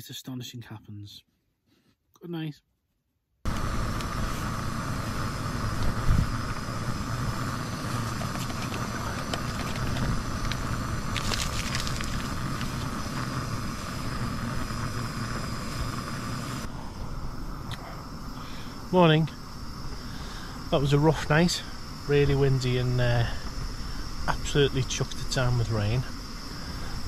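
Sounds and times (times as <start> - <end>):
gas stove burning: 3.5 - 27.0.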